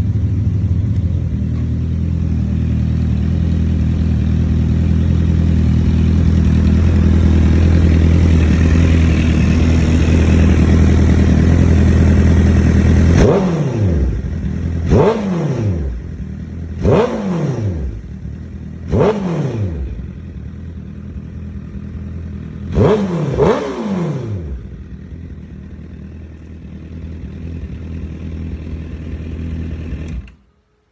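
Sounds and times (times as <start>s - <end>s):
motorcycle engine idling: 0.0s - 30.4s
motorcycle throttle revs: 0.0s - 30.4s.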